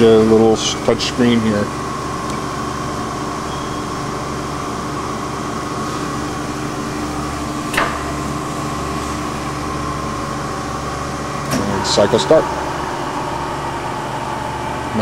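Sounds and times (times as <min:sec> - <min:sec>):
grinder machine humming: 0:00.0 - 0:15.0.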